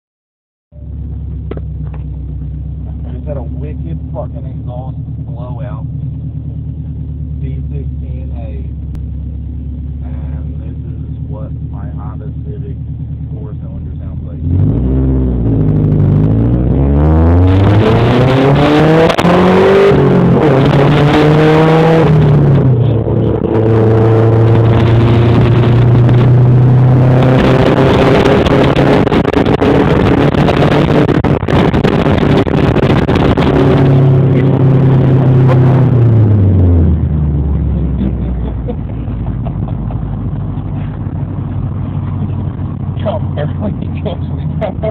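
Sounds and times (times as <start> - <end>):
car engine revving: 0.8 - 44.9.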